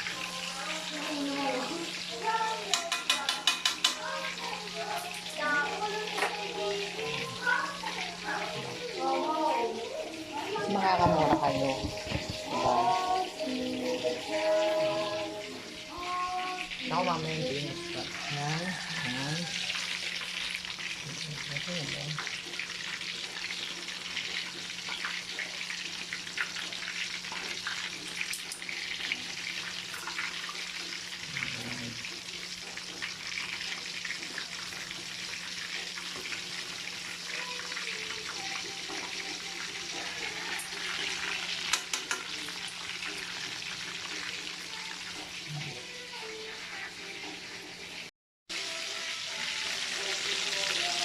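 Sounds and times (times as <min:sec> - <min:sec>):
chicken sizzling in hot oil: 0:00.0 - 0:51.0.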